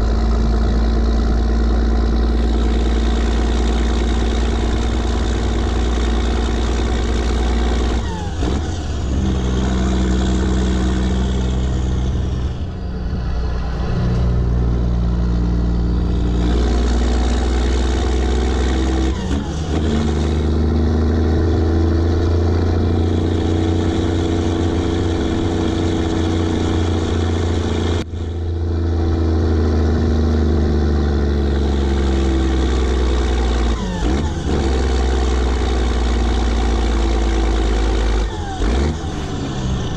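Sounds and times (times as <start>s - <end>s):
truck diesel engine pulling hard: 0.0s - 39.9s.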